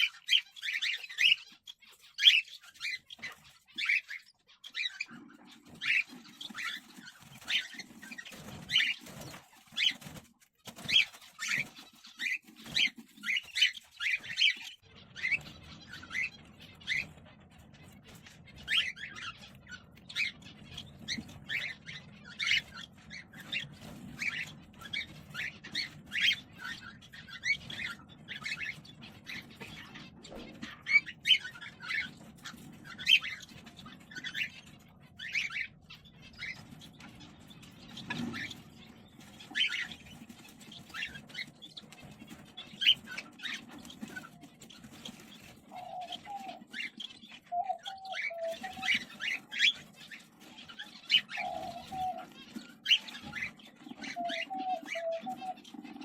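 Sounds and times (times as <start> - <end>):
cockatiels chirping: 0.0 - 56.0.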